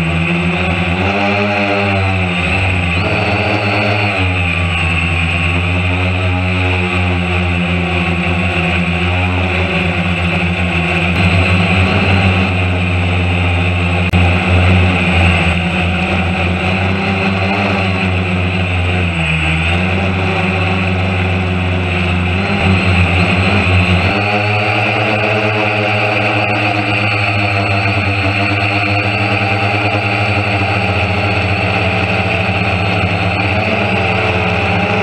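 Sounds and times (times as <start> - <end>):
drone propellers buzzing: 0.0 - 35.0.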